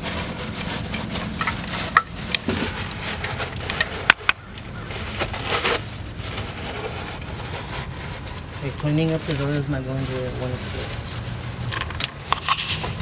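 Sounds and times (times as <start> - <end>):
rustling handling noise: 0.0 - 13.0.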